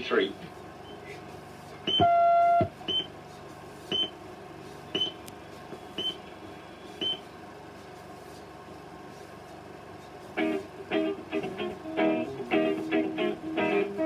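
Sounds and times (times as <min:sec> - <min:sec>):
steady hiss and hum: 0:00.0 - 0:14.0.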